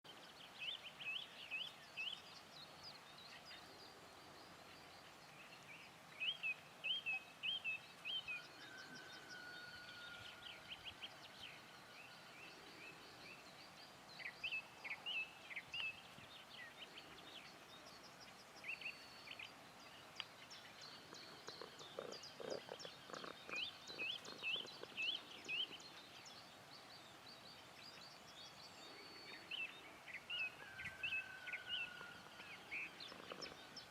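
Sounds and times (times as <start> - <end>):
faint steady hiss: 0.1 - 33.9
small birds chirping: 0.1 - 33.9.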